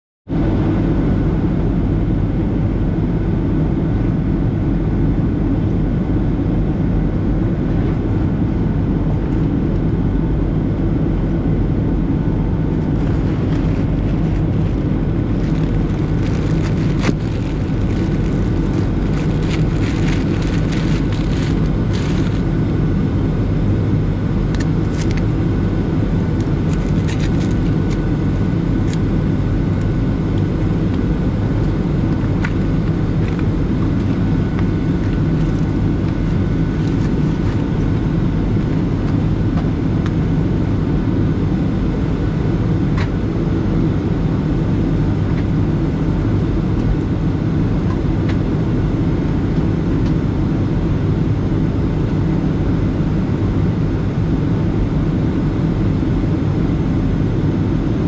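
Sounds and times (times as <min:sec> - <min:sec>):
faint steady whine: 0:00.3 - 0:58.0
jet engines rumbling: 0:00.3 - 0:58.0.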